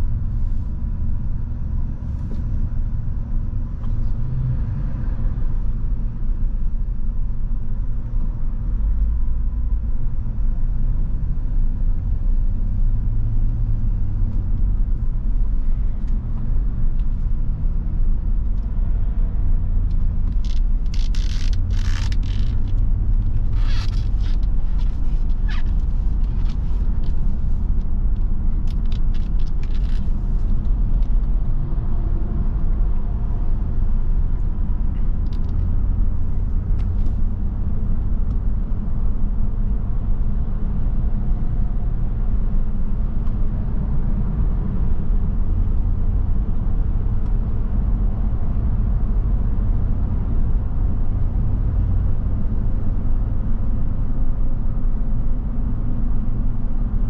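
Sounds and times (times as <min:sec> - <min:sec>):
road noise: 0:00.0 - 0:57.0.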